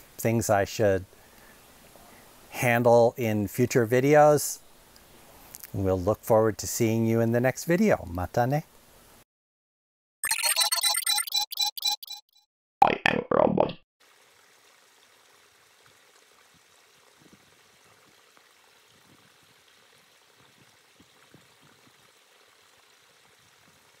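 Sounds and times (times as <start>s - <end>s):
faint outdoor hiss: 0.0s - 9.2s, 14.0s - 24.0s.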